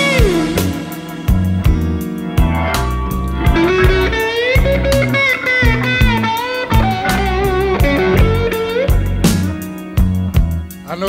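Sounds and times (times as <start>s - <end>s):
bass and drums: 0.0s - 11.0s
blues electric guitar: 0.0s - 11.0s.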